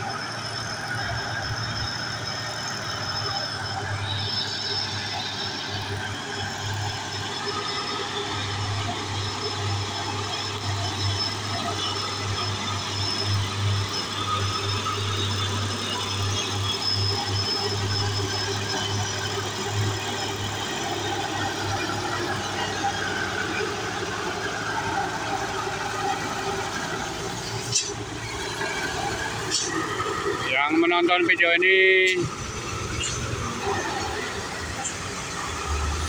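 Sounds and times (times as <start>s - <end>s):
diesel truck engines labouring: 0.0s - 36.0s.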